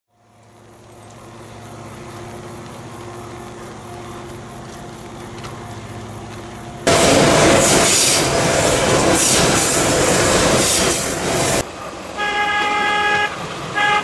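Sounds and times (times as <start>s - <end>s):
locomotive engines droning: 0.2s - 14.0s.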